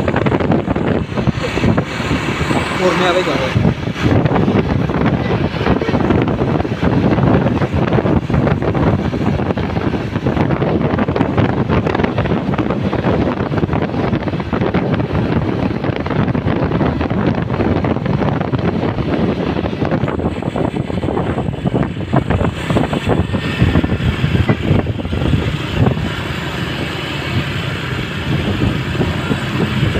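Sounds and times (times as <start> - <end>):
road traffic rumble: 0.0 - 29.9
wind buffeting microphone: 0.0 - 29.9.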